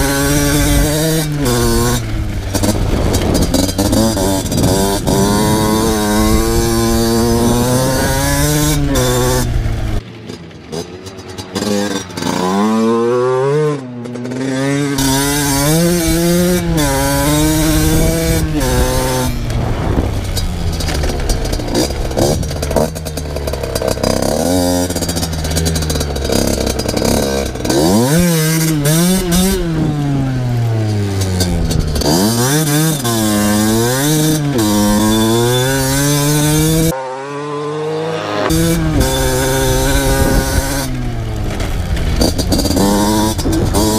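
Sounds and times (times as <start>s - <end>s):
two-stroke motocross engine revving: 0.0s - 43.9s.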